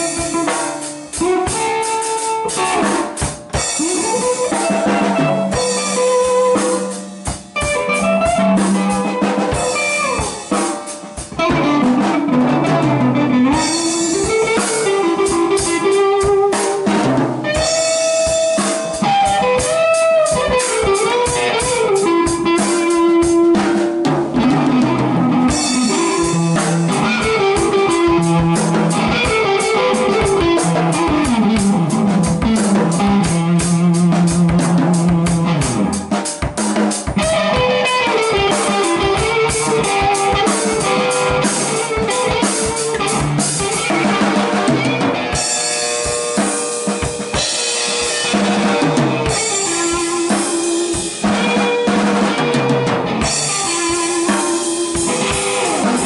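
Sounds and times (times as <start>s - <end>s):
drumming with cymbals: 0.0s - 56.0s
electric guitar lead line: 0.0s - 56.0s.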